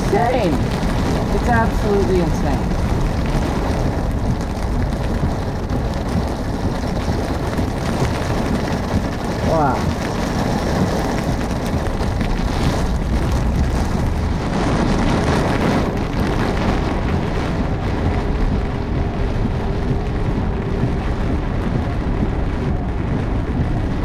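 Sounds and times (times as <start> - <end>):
car road noise: 0.0 - 24.0
rain pelting a car roof: 0.0 - 24.0.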